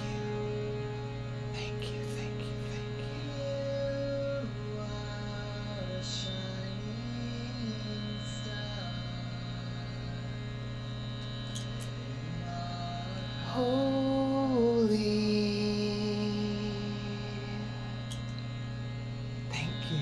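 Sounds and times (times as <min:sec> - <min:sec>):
electrical mains hum: 0:00.0 - 0:20.0
faint sustained tones: 0:00.0 - 0:20.0
person toning long held notes: 0:00.0 - 0:20.0.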